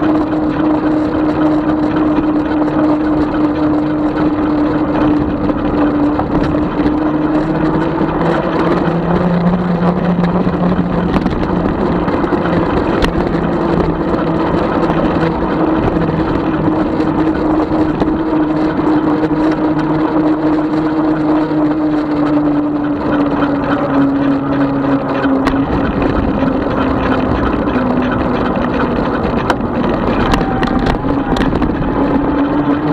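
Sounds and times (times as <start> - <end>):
electric motor whining: 0.0 - 32.9
road and wind noise: 0.0 - 32.9.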